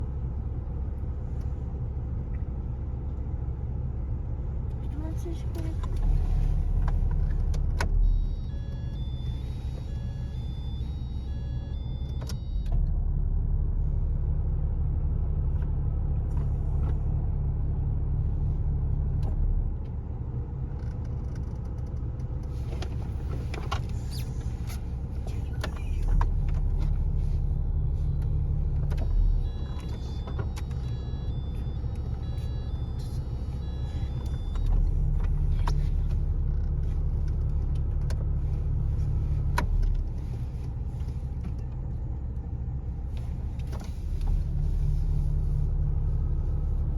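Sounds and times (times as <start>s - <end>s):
van engine idling: 0.0s - 46.9s.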